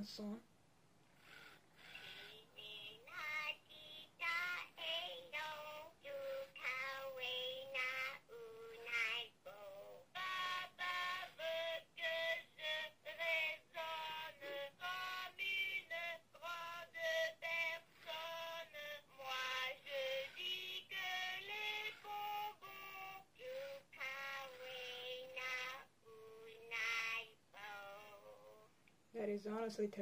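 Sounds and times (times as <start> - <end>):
toy singing in synthetic voice: 1.8 - 28.7.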